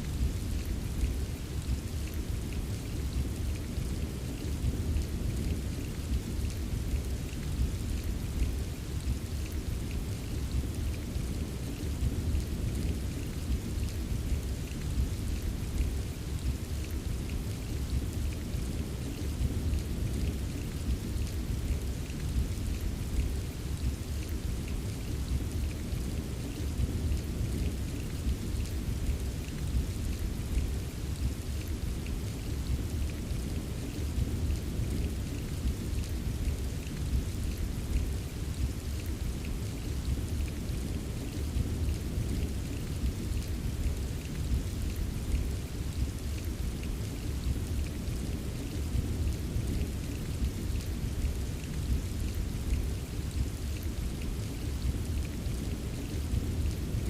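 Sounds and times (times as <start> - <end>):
steady rainfall: 0.0 - 57.0
raindrops ticking: 0.1 - 57.0.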